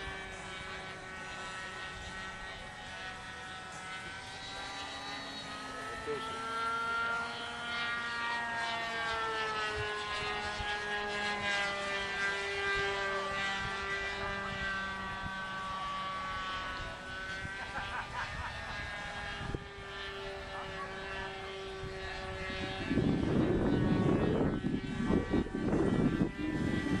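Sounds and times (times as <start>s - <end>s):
model airplane engine buzzing: 0.0s - 27.0s.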